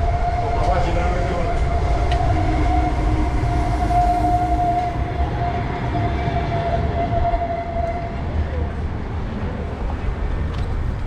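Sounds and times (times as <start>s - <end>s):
tram whine and rumble: 0.0s - 11.0s.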